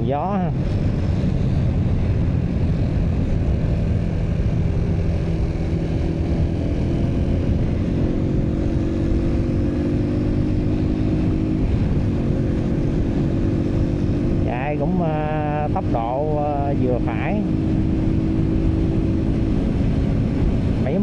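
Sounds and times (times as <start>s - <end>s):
motorcycle engine: 0.0s - 21.0s
wind rumbling on microphone: 0.0s - 21.0s.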